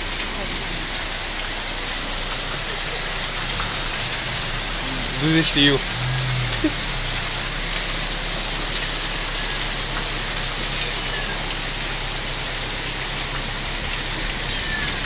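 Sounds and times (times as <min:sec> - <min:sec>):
heavy rain: 0:00.0 - 0:15.0
runoff pouring onto ground: 0:00.0 - 0:15.0.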